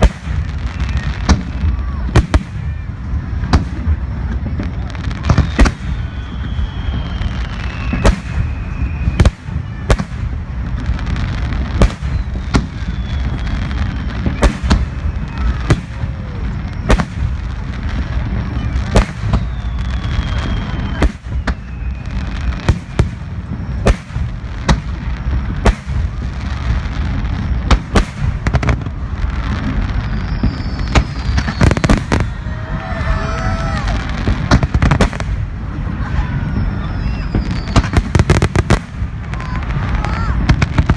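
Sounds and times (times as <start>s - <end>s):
rumble of explosions: 0.0s - 40.9s.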